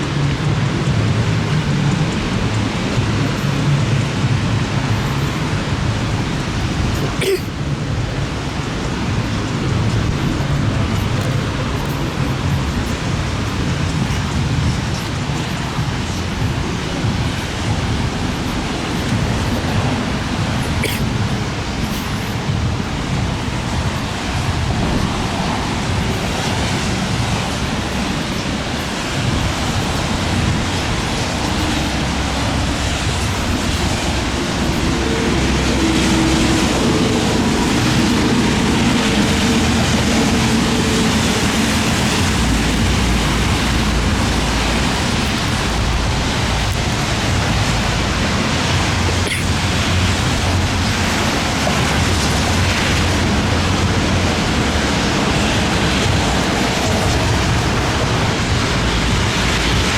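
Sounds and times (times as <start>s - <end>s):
gusting wind: 0.0s - 59.9s
heavy rain: 0.0s - 59.9s.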